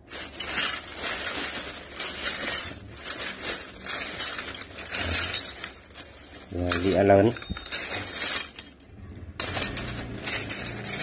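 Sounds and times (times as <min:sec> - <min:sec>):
metal utensils clinking: 0:00.0 - 0:11.0
plastic bag crinkling: 0:00.0 - 0:11.0.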